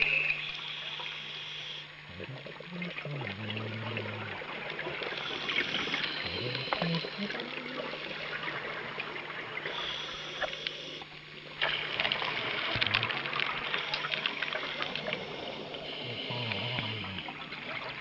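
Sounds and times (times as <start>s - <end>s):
faint low hum: 0.0s - 18.0s
underwater rushing and bubbling: 0.0s - 18.0s.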